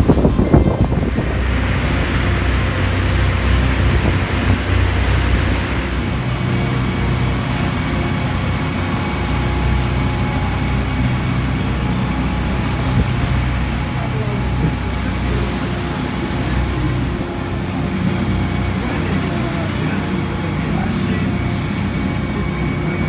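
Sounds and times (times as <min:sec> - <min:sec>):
boat engine humming: 0:00.0 - 0:23.0
water rushing in wake: 0:00.0 - 0:23.0.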